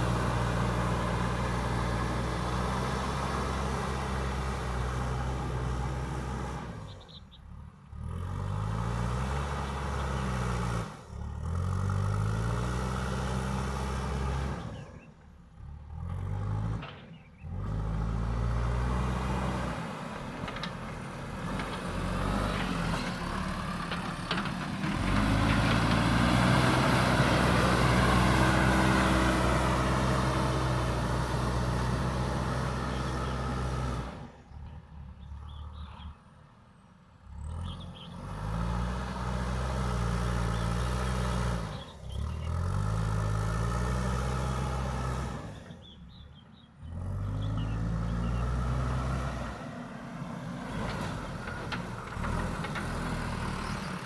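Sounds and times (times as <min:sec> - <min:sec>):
diesel engine revving under load: 0:00.0 - 0:36.3, 0:37.1 - 0:54.0.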